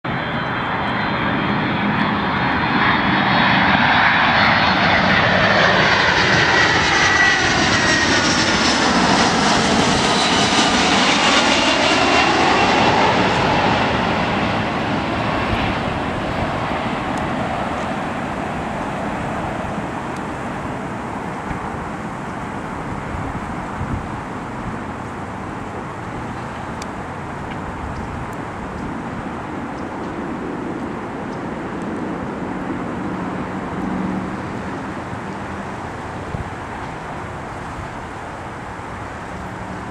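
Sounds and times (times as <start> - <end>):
jet airliner passing overhead: 0.0 - 39.9.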